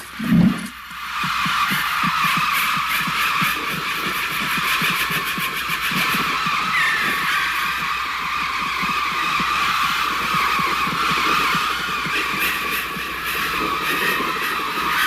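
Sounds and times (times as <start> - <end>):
synthesised bird flock screeches: 0.0 - 15.0.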